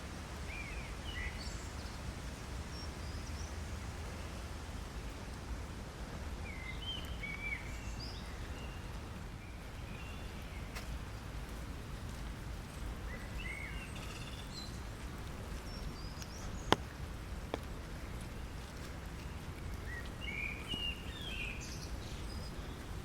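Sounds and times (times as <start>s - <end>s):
steady rain: 0.0s - 23.0s
songbirds chirping: 0.2s - 5.4s, 6.4s - 23.0s.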